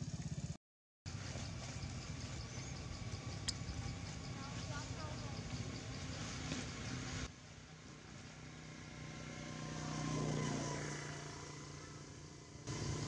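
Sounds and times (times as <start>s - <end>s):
vehicle engine passing by: 1.2s - 13.0s.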